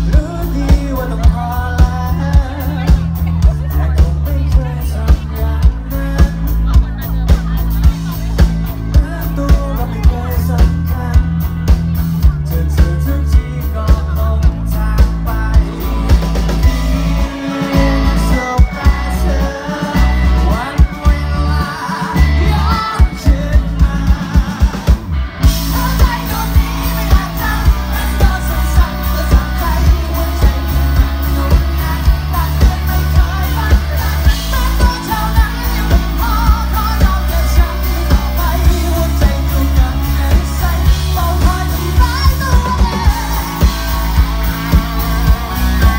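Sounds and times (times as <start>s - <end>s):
drum beat: 0.0s - 45.9s
electric guitar: 0.0s - 45.9s
keyboard: 0.0s - 45.9s
man singing: 0.0s - 45.9s.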